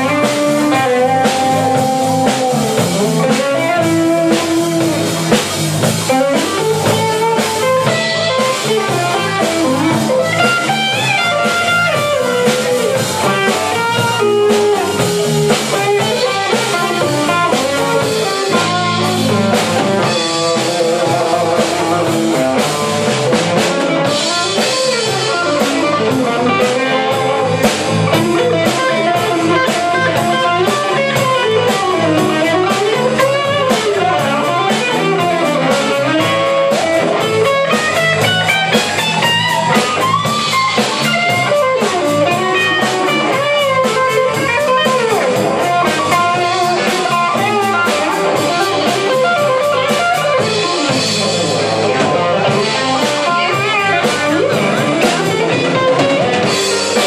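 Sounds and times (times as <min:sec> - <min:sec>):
bass guitar: 0:00.0 - 0:57.0
drum kit: 0:00.0 - 0:57.0
electric guitar lead: 0:00.0 - 0:57.0.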